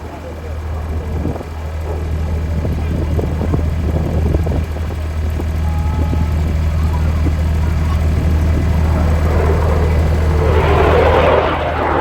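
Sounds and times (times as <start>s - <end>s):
aircraft engine drone: 0.0s - 12.0s
rushing aircraft noise: 0.0s - 12.0s.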